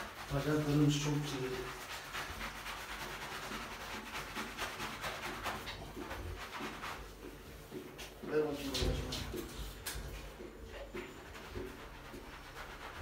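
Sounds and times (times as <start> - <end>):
loofah scrubbing wet fur: 0.0 - 13.0.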